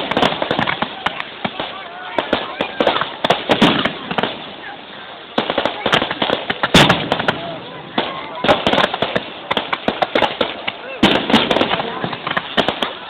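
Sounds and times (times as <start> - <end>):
fireworks bang: 0.0 - 4.8, 5.4 - 13.0
fireworks crackling pops: 0.0 - 13.0
voices: 0.0 - 13.0.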